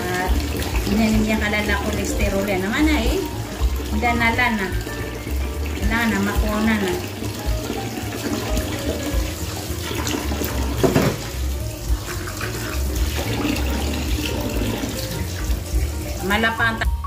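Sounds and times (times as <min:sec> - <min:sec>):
tap water splashing into sink: 0:00.0 - 0:16.9.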